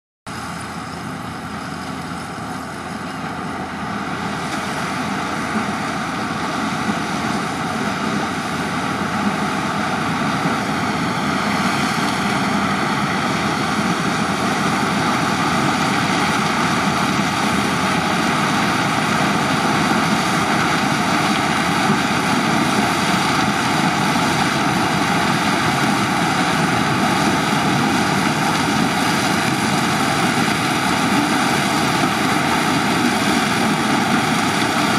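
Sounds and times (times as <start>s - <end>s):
combine harvester running: 0.3s - 34.9s.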